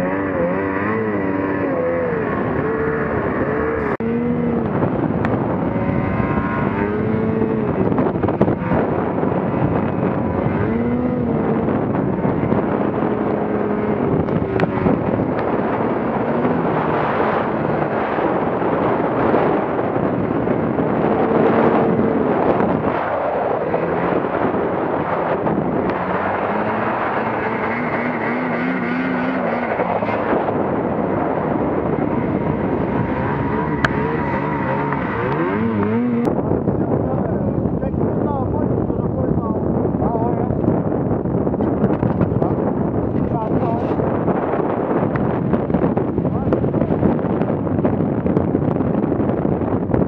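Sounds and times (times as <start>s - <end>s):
snowmobile engines revving: 0.0s - 40.8s, 41.4s - 47.9s
continuous rushing noise: 0.0s - 50.0s.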